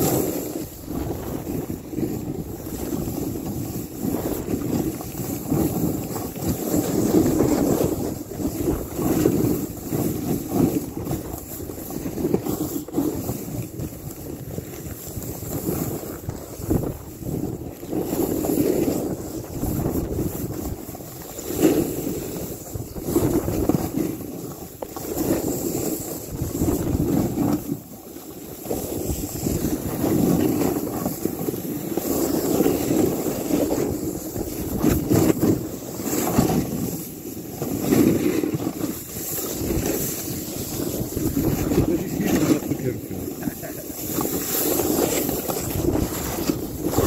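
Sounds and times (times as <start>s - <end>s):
snowboard scraping over snow: 0.0s - 47.0s
wind buffeting microphone: 0.0s - 47.0s.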